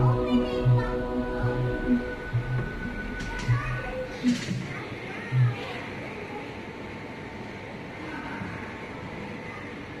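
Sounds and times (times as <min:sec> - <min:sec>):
indoor room hum: 0:00.0 - 0:10.0.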